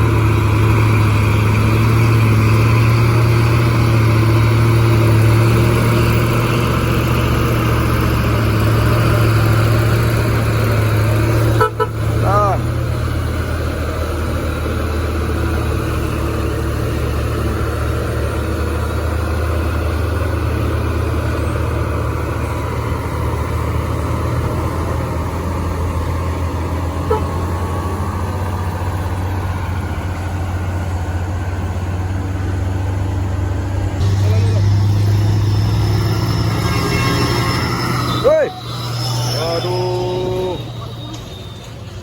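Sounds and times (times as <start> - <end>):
heavy truck engine droning: 0.0 - 42.0.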